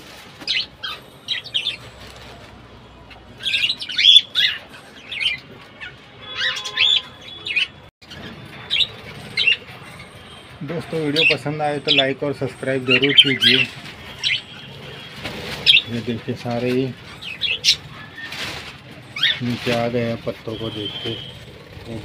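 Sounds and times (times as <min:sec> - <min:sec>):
flock of parakeets chirping: 0:00.4 - 0:02.3, 0:03.1 - 0:22.0.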